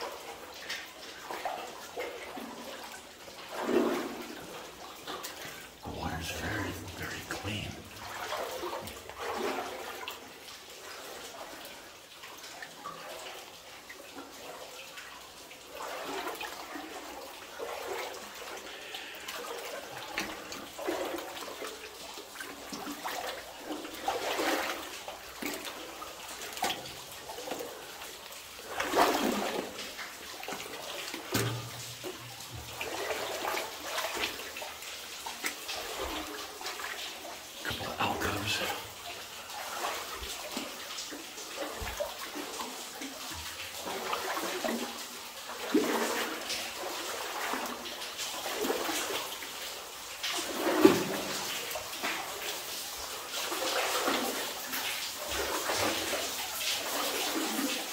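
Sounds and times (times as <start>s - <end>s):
wading through deep water: 0.0s - 57.9s.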